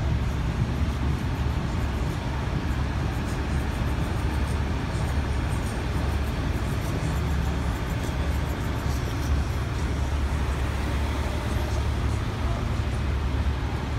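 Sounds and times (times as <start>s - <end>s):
idling vehicle engines: 0.0s - 13.9s
street traffic: 0.0s - 13.9s.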